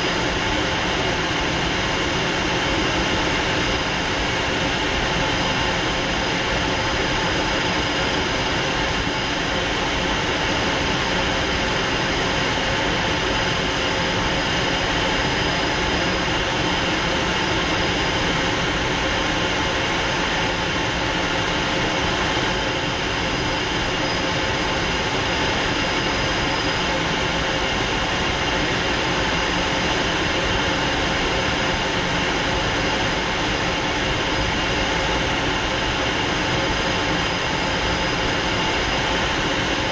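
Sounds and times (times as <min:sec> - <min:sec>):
jet engine rush: 0:00.0 - 0:39.9.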